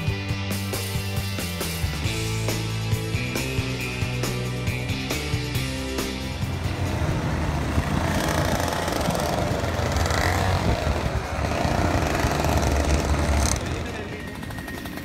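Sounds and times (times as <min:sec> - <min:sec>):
kart engine idling: 0:02.1 - 0:15.0.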